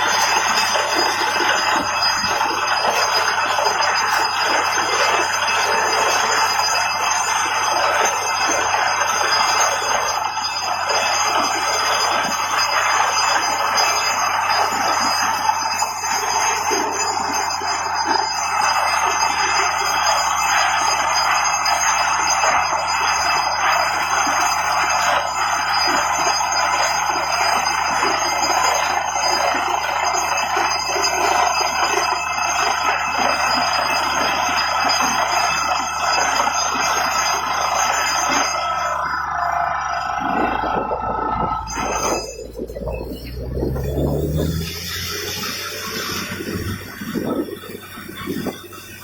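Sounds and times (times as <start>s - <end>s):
drilling rig grinding: 0.0s - 49.0s
high metallic ringing: 0.0s - 49.0s
low machine hum: 0.0s - 49.0s.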